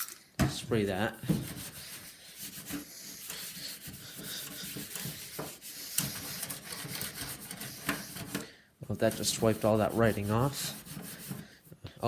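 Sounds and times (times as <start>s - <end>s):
paper towel scrubbing plastic: 0.6s - 11.6s.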